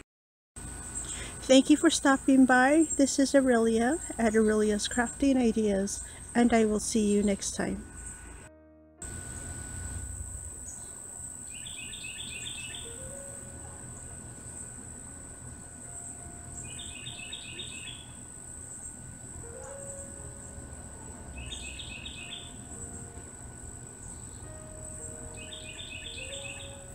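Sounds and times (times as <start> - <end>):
high-pitched insect drone: 0.6 - 26.9
songbird singing: 0.7 - 8.4, 9.0 - 26.9.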